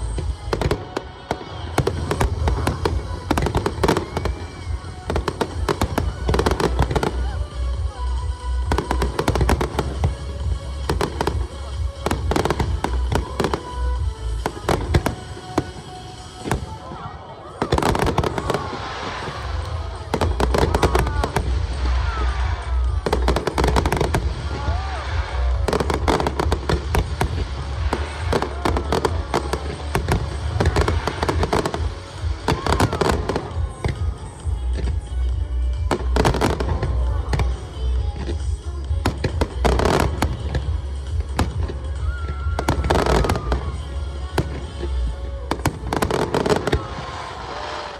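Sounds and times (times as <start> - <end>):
fireworks bangs and crackles: 0.0 - 47.9
music over loudspeakers: 0.0 - 47.9.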